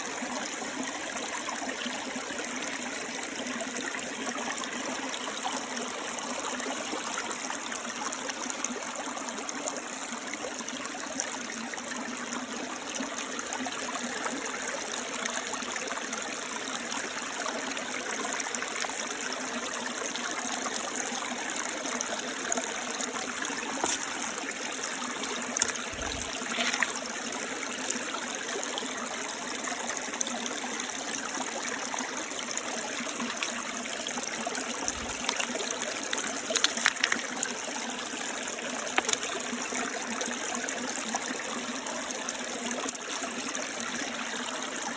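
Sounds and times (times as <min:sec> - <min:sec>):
creek trickling over rocks: 0:00.0 - 0:44.9.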